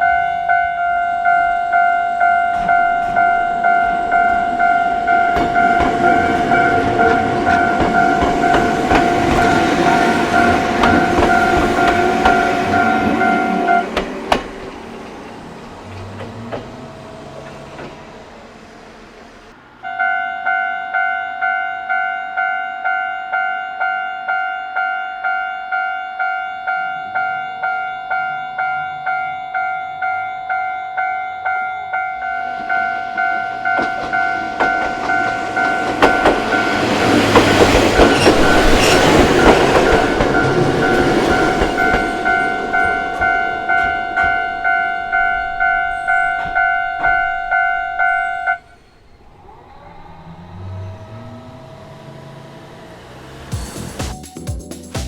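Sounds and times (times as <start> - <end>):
railway crossing bell ringing: 0.0 - 14.7, 19.7 - 49.3
train rumbling over crossing: 0.0 - 23.1, 26.2 - 54.2.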